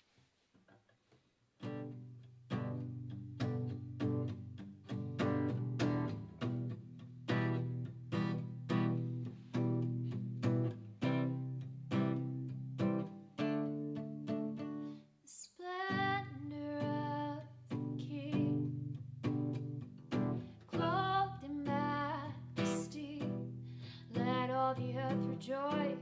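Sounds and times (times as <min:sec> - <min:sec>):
strummed acoustic guitar: 0:01.6 - 0:15.0, 0:15.9 - 0:26.0.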